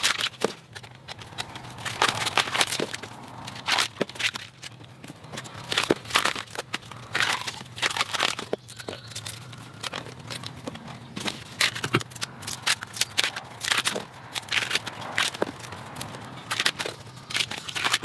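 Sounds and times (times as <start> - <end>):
bamboo sheaths tearing and snapping: 0.0 - 18.0.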